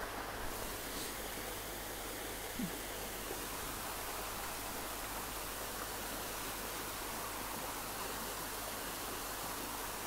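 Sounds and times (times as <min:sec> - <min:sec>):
hiss-like background noise: 0:00.0 - 0:10.0.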